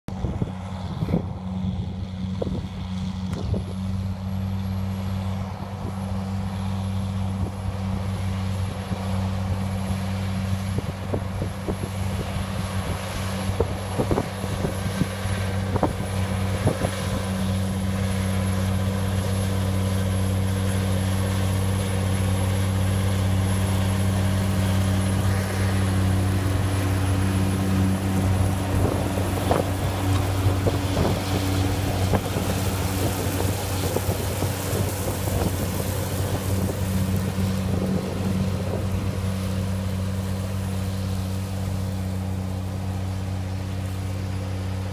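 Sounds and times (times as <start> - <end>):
tractor diesel engine droning: 0.1 - 44.9.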